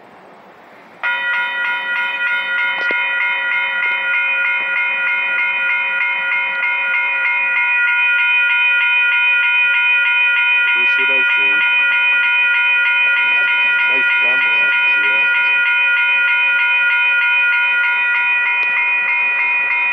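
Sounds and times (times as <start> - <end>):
level crossing warning bell: 1.0 - 19.9.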